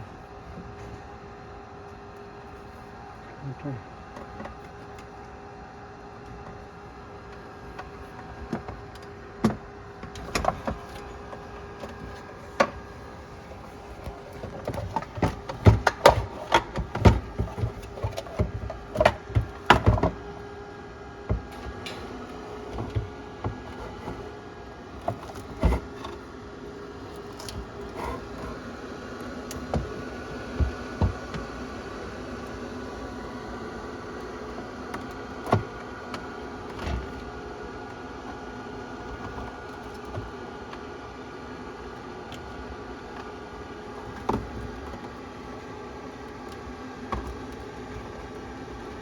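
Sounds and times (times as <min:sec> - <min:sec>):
steady hum: 0:00.0 - 0:49.0
refrigerator parts and tools clicking: 0:06.1 - 0:20.5, 0:21.2 - 0:40.9, 0:41.5 - 0:49.0.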